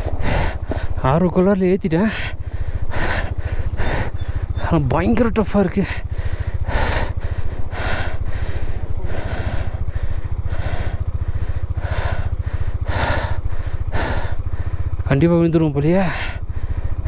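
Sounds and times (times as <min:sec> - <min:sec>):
motorcycle engine labouring: 0:00.0 - 0:17.0.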